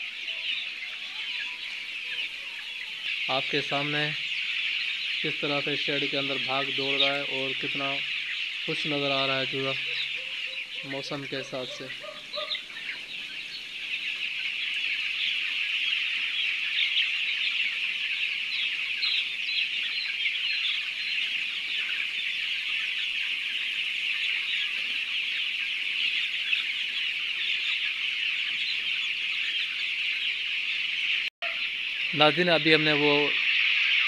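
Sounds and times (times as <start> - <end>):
chicks peeping: 0.0 - 34.0.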